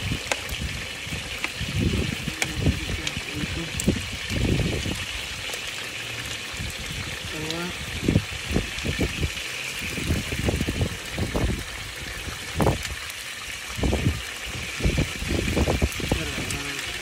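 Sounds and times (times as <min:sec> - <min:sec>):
chicken deep-frying in hot oil: 0:00.0 - 0:17.0.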